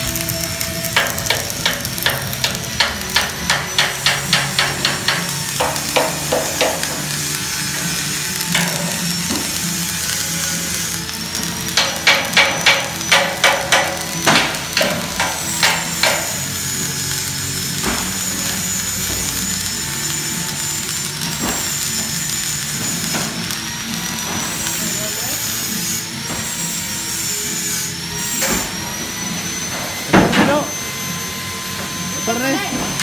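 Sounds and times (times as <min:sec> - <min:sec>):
welding arc crackling: 0:00.0 - 0:33.0.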